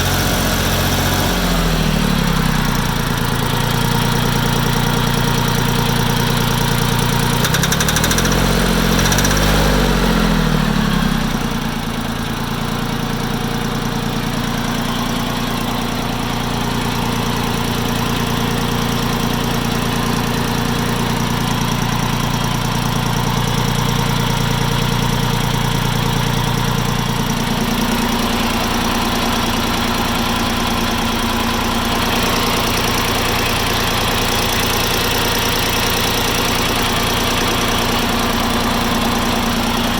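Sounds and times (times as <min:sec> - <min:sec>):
tractor engine knocking: 0:00.0 - 0:10.0, 0:10.8 - 0:39.9.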